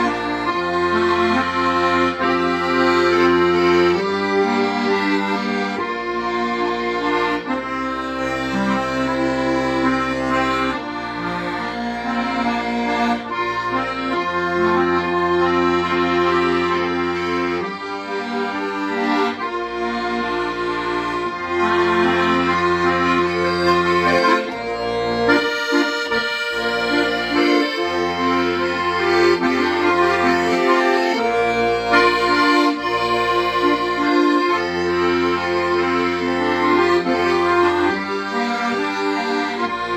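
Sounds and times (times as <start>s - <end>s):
accordion playing slow melody: 0.0s - 39.9s.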